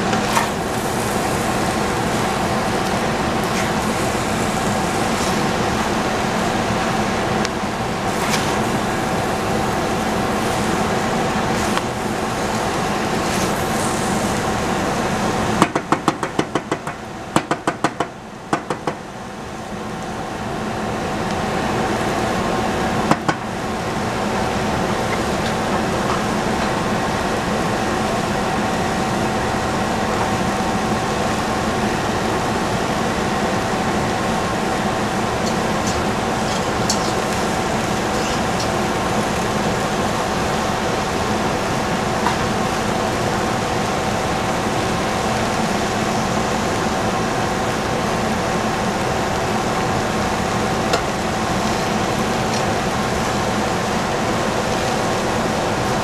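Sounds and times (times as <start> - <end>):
kitchen hum and hiss: 0.0 - 56.0.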